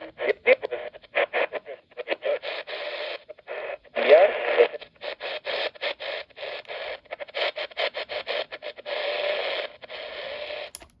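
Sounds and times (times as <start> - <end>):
radio static hiss: 0.0 - 10.8.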